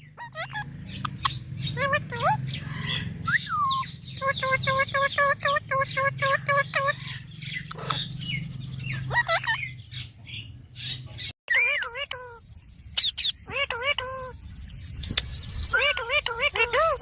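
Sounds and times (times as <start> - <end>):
parrot squawking: 0.0 - 12.4, 13.0 - 14.4, 15.7 - 17.0.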